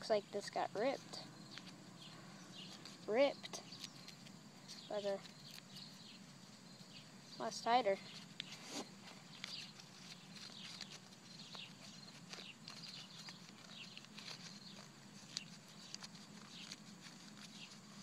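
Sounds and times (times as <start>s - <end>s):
paper logbook rustling: 0.4s - 6.8s, 7.9s - 18.0s.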